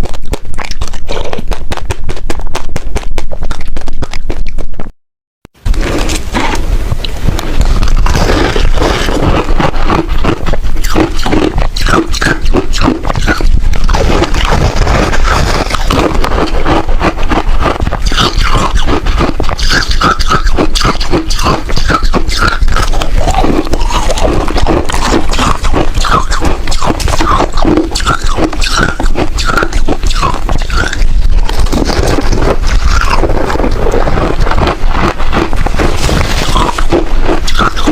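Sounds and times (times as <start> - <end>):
frost being chewed: 0.0 - 4.9, 5.7 - 37.9.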